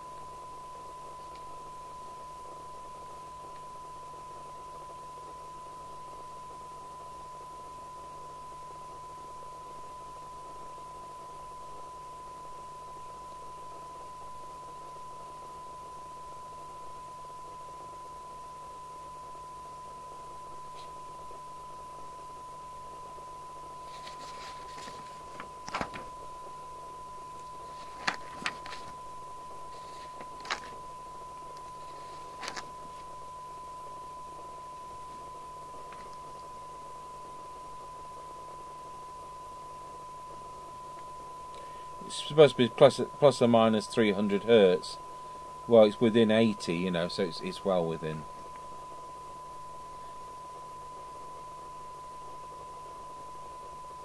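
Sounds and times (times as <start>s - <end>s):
faint hum and hiss: 0.0s - 54.0s.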